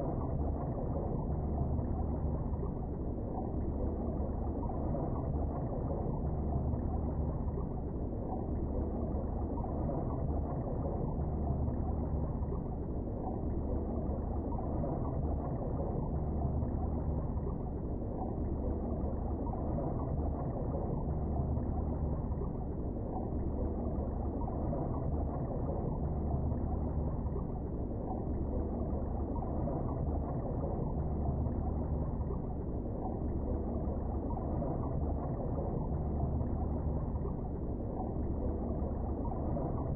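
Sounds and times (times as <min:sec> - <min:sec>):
muffled underwater river rush: 0:00.0 - 0:39.9.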